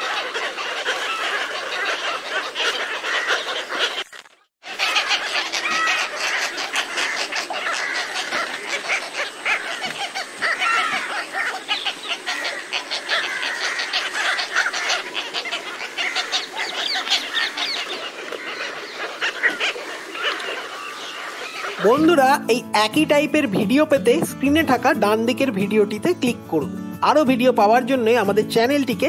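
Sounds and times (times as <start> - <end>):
cormorants calling: 0.0 - 29.0.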